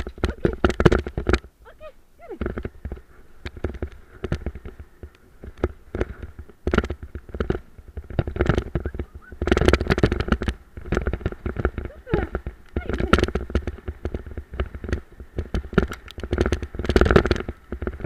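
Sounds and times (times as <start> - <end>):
cart wheels rumbling: 0.0 - 18.0.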